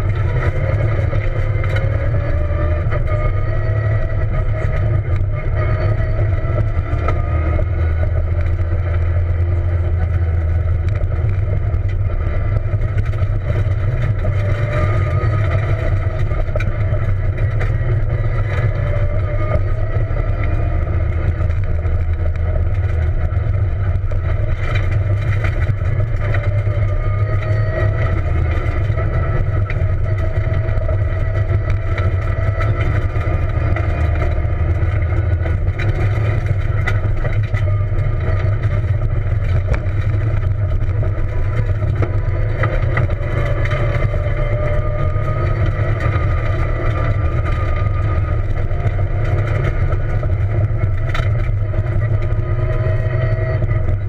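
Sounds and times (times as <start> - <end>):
car engine revving: 0.0 - 54.0
low rumble of gravel road: 0.0 - 54.0.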